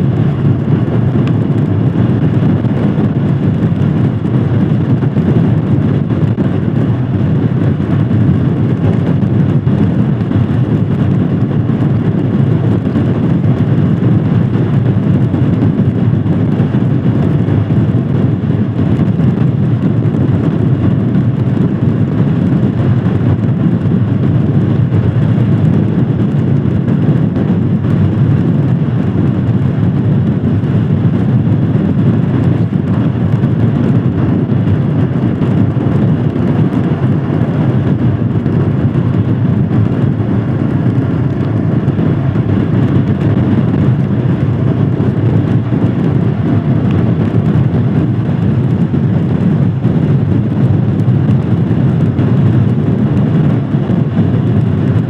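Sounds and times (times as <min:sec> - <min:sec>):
motorcycle engine running: 0:00.0 - 0:55.0
riding wind noise: 0:00.0 - 0:55.0.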